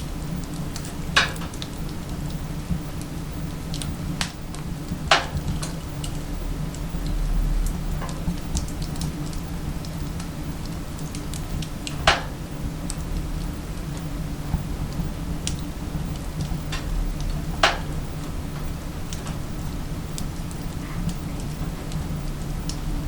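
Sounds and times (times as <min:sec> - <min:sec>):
firewood crackling in stove: 0:00.0 - 0:23.0
low steady drone: 0:00.0 - 0:23.0.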